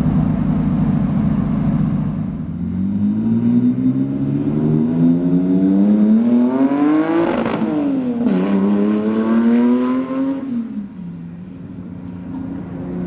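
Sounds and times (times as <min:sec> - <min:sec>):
car engine accelerating hard: 0:00.0 - 0:11.2.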